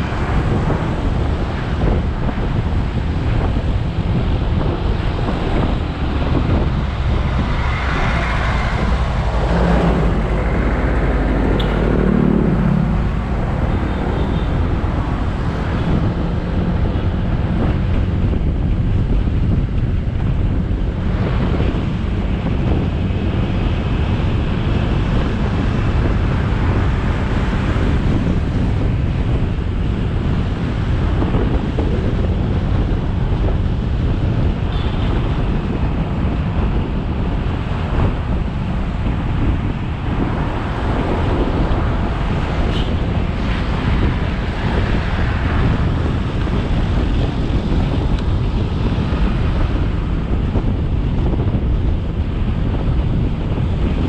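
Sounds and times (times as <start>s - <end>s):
motorcycle engine roar: 0.0s - 54.0s
passing traffic engine: 0.0s - 54.0s
wind buffeting on microphone: 0.0s - 54.0s.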